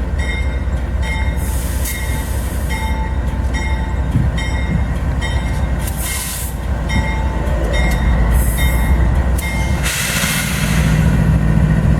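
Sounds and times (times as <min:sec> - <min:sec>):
train wagons rumbling past: 0:00.0 - 0:11.9.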